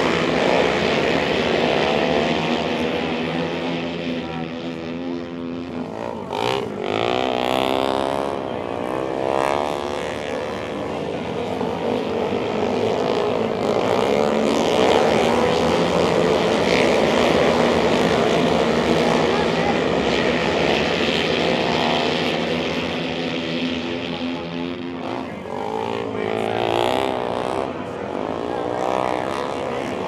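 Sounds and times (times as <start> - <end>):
motorcycle engines racing: 0.0 - 30.0.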